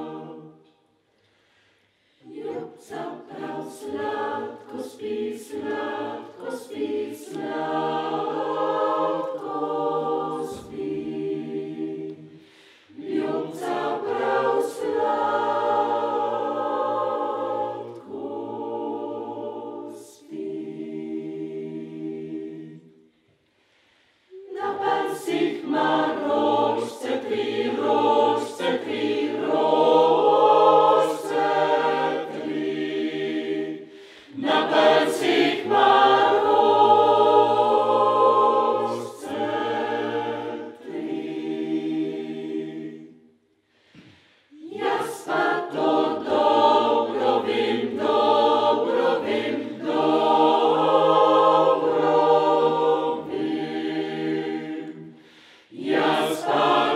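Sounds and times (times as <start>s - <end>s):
choir singing a cappella: 0.0s - 56.9s.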